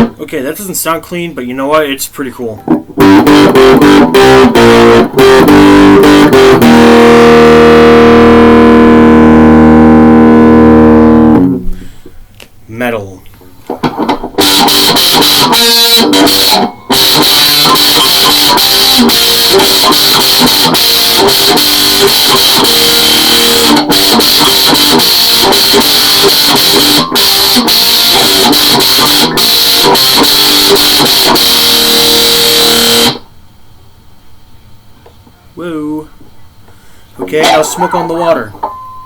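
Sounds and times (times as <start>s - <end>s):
distorted electric guitar riff: 0.0s - 0.3s, 2.6s - 12.1s, 13.5s - 33.4s, 37.2s - 38.8s.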